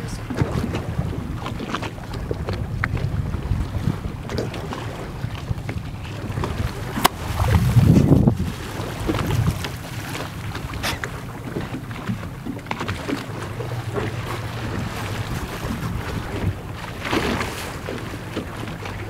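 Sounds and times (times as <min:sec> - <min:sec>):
boat engine hum: 0:00.0 - 0:19.0
wind buffeting microphone: 0:00.0 - 0:19.0.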